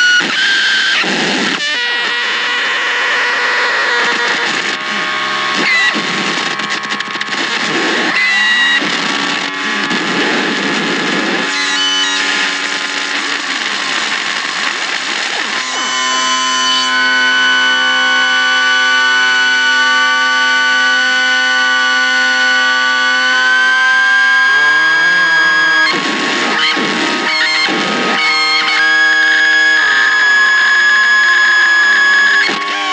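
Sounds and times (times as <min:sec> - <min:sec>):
electronic drone of held tones: 0:00.0 - 0:32.9
harsh electronic hiss with squeals: 0:00.0 - 0:32.9.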